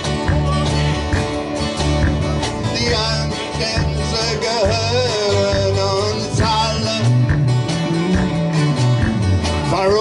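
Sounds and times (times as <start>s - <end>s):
bass guitar: 0.0s - 10.0s
drums: 0.0s - 10.0s
electric guitars: 0.0s - 10.0s.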